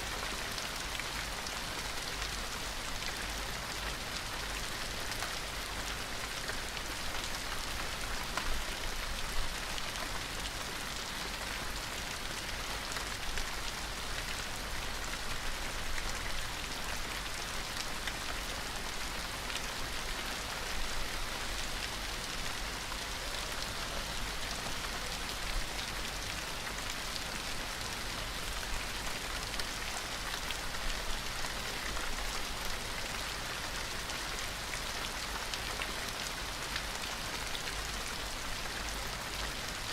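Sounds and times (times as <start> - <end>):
gentle rain hissing: 0.0 - 39.9.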